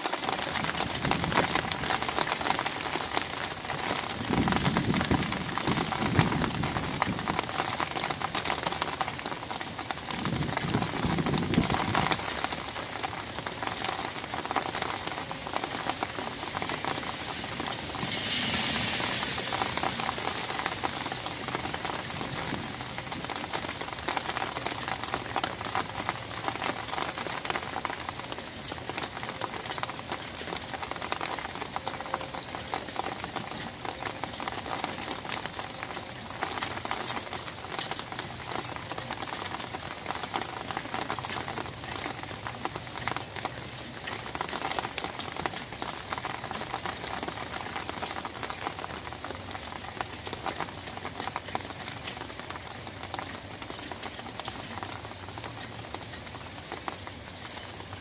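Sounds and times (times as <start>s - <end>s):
hiss of heavier rain: 0.0s - 58.0s
rain pattering on umbrella: 0.0s - 58.0s.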